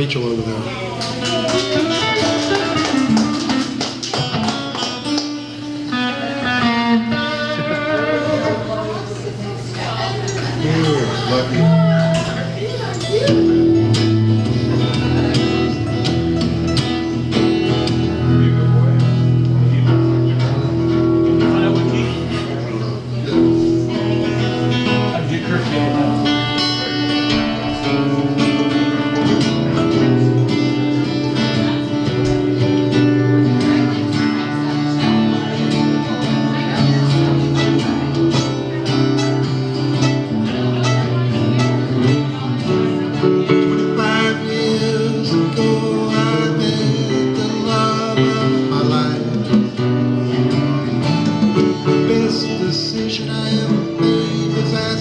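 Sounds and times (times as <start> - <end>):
electric guitar lead: 0.0 - 55.0
live band playing instrumental: 0.0 - 55.0.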